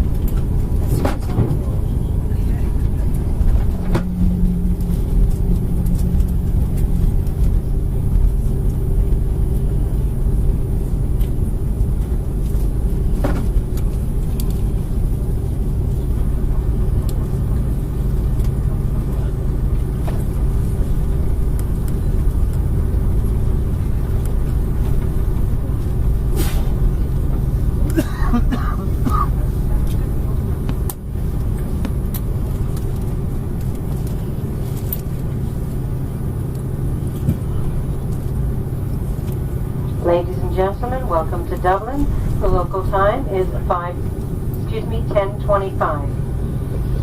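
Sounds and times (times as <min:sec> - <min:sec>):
engine and airframe rumble: 0:00.0 - 0:47.0.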